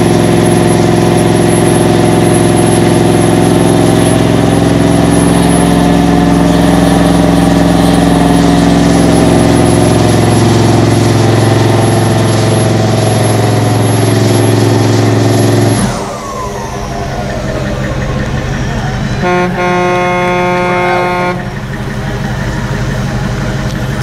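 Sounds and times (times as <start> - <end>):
truck engine revving high: 0.0 - 24.0.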